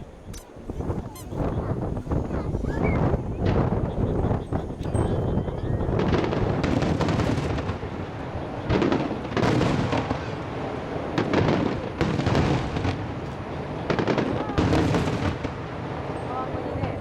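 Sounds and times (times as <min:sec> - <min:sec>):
continuous rumble: 0:00.0 - 0:17.0
fireworks bursting: 0:00.0 - 0:17.0
fireworks crackling: 0:00.0 - 0:17.0.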